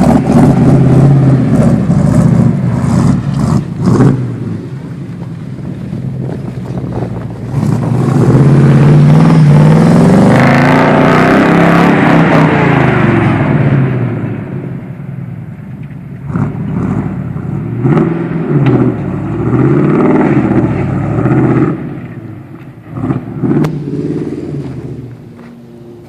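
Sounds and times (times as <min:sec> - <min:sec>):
truck engine revving: 0:00.0 - 0:15.0, 0:16.2 - 0:26.0.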